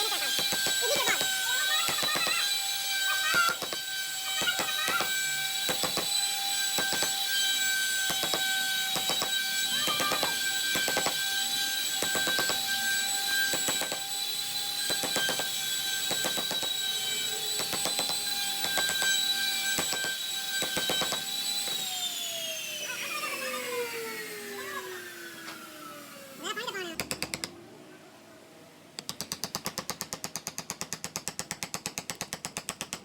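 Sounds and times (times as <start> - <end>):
power tool whining: 0.0 - 27.8.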